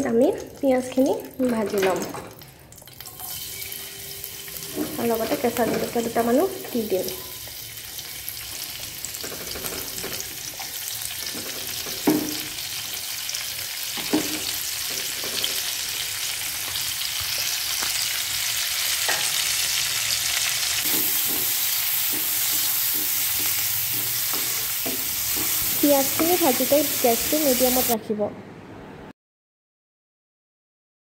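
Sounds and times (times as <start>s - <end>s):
onions sizzling in hot oil: 2.9s - 28.0s.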